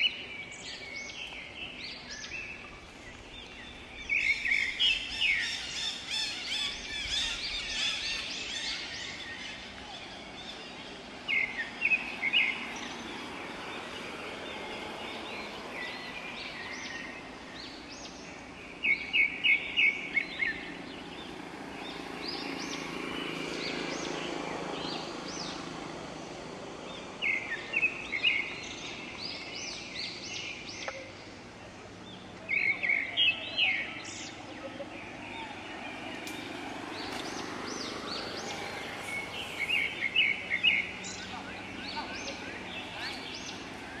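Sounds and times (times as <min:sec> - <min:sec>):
forest background hum: 0:00.0 - 0:44.0.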